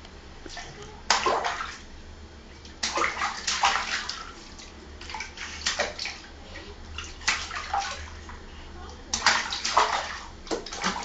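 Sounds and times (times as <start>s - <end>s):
baby slapping water: 0.5s - 1.9s, 2.6s - 11.0s.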